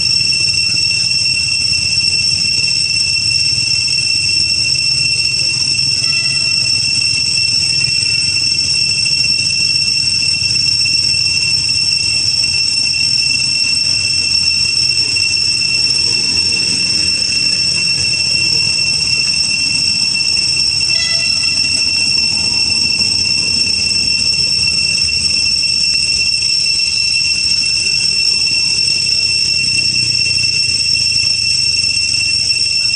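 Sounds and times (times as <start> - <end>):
cicadas droning: 0.0 - 32.9.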